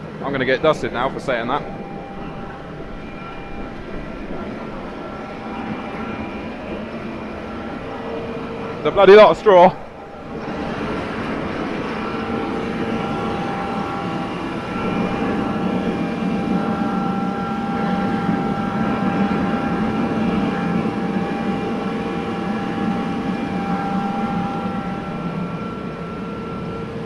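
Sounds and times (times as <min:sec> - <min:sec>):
combine harvester running: 0:00.0 - 0:27.0
machine whining tones: 0:00.0 - 0:27.0.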